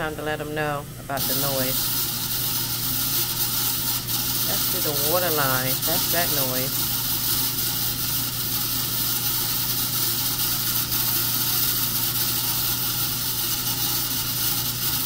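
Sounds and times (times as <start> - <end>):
water rushing into washing machine: 1.2 - 15.0.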